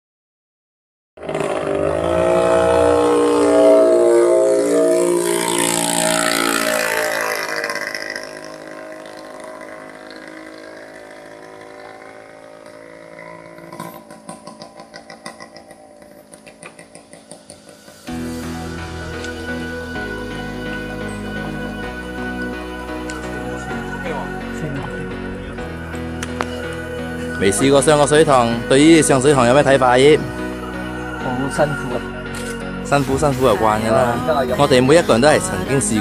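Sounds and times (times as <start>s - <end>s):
motor engine running: 1.2s - 36.0s.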